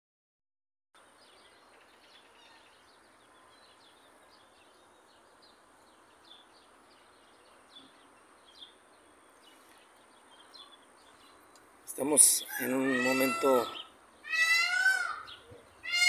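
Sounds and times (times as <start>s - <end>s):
small birds chirping: 1.0s - 16.0s.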